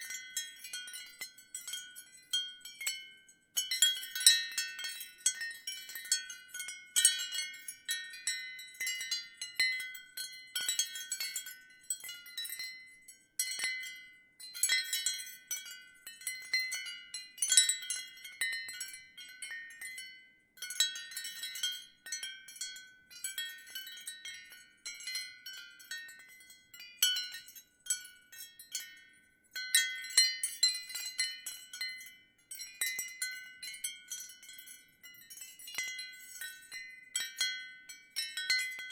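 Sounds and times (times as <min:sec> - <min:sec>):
ceramic wind chime clinking: 0:00.0 - 0:38.9.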